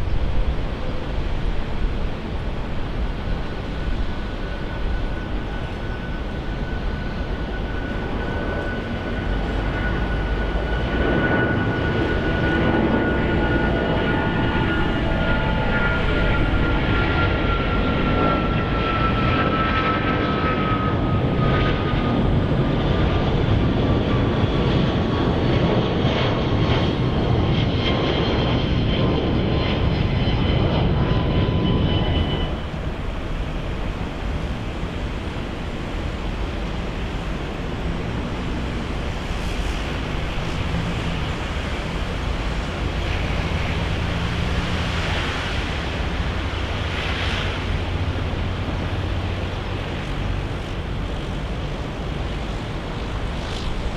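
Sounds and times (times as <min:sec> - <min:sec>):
distant jet rumble: 0:00.0 - 0:53.9
jet engines roaring: 0:00.0 - 0:53.9.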